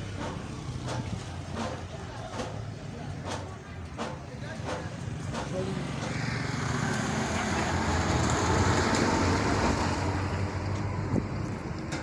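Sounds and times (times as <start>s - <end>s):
tyre noise on road: 0.0s - 12.0s
vehicle engine rumble: 0.0s - 12.0s.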